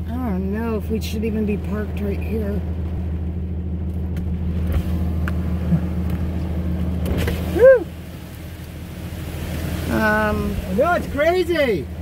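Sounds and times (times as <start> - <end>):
truck engine low hum: 0.0 - 12.0.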